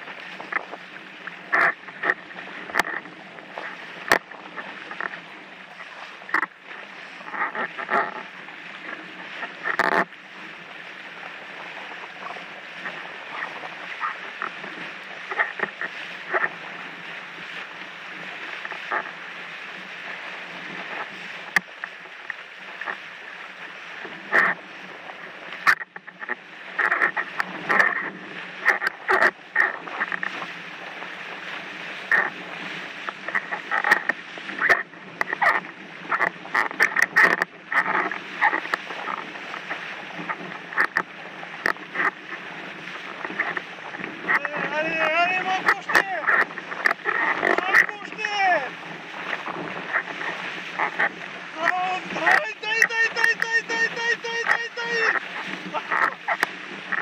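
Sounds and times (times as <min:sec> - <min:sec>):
board slapping on water: 0:00.0 - 0:57.0
rush of wind and water: 0:00.0 - 0:57.0.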